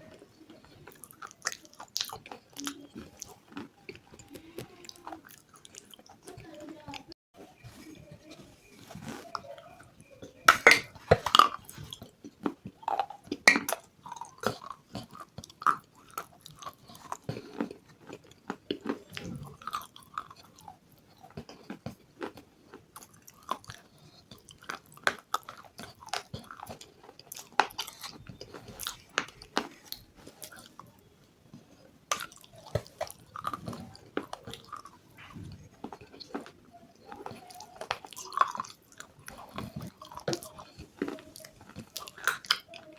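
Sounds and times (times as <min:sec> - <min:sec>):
person chewing crunchy food: 0:00.0 - 0:42.9.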